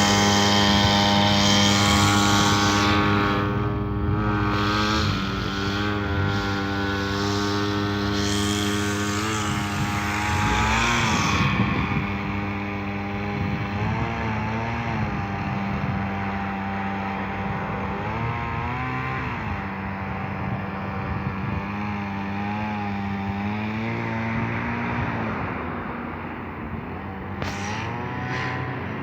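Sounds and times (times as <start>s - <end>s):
harvester engine running: 0.0s - 29.0s.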